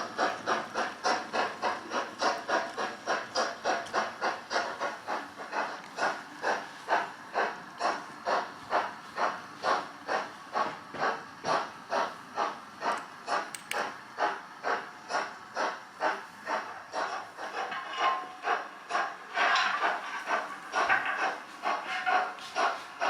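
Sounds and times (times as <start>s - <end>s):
steam locomotive exhaust chuffing: 0.0s - 23.0s.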